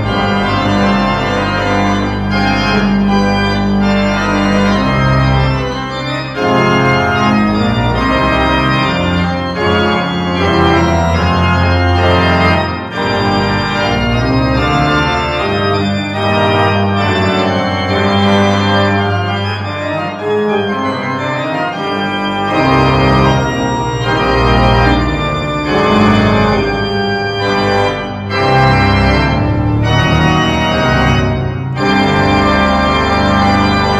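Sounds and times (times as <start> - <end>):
pipe organ playing: 0.0 - 33.9.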